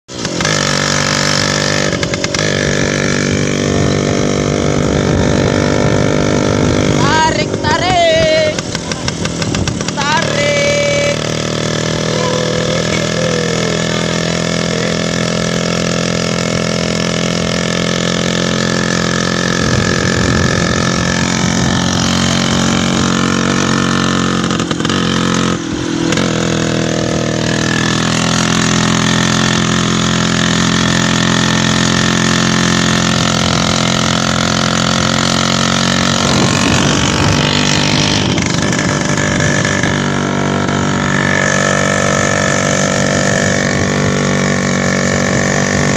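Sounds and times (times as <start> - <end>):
motorcycle engine running: 0.1 - 45.9.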